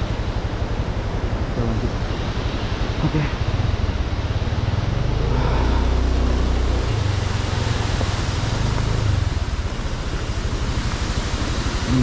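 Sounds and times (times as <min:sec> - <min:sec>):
steady rush of noise: 0:00.0 - 0:12.0.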